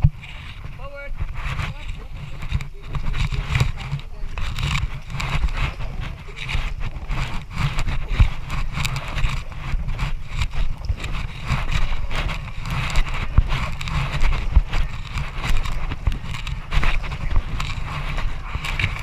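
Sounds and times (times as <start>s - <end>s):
low microphone rumble: 0.0s - 19.0s.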